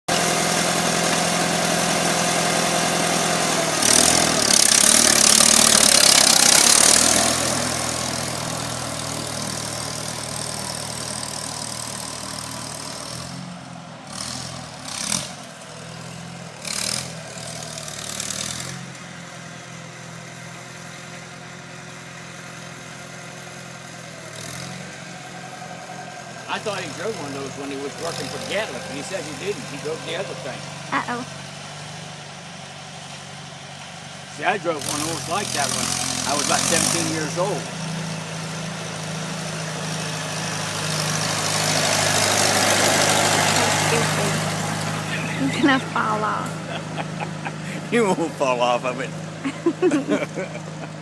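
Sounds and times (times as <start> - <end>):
tractor engine running: 0.1 - 51.0.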